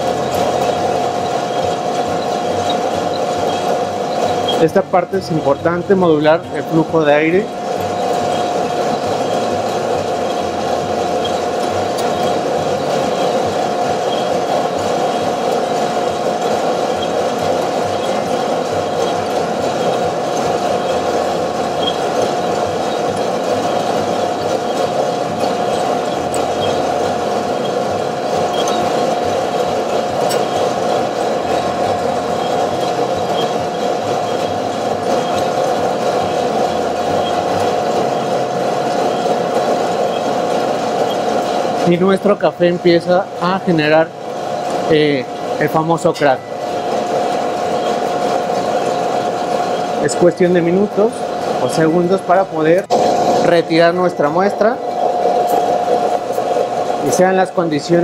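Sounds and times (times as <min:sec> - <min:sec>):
coffee roaster whirring hum: 0:00.0 - 0:58.0.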